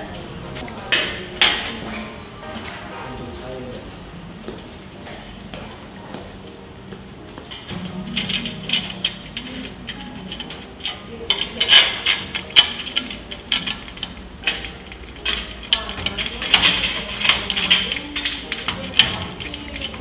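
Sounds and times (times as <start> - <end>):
music: 0.0 - 20.0.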